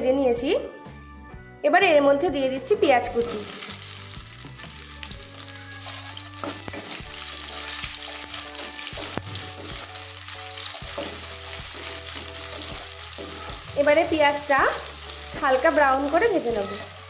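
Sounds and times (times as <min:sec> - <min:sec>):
soft background music: 0:00.0 - 0:17.0
onions sizzling in hot oil: 0:03.0 - 0:17.0.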